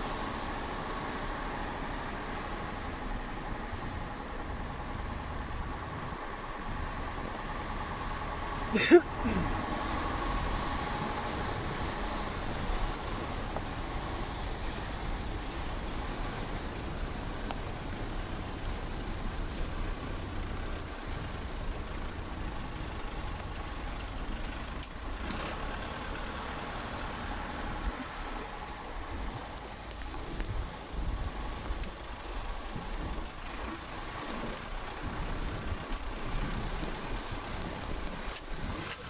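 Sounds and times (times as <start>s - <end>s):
pickup truck rumbling: 0.0s - 39.0s
tyre noise on dirt road: 0.0s - 39.0s.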